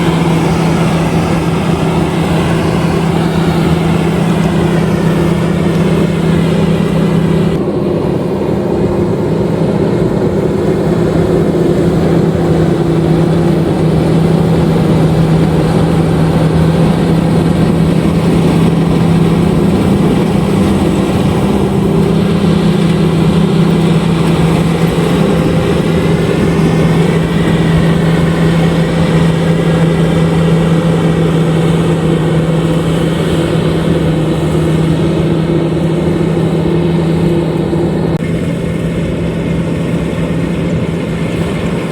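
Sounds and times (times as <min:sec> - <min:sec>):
combine harvester engine drone: 0:00.0 - 0:41.9.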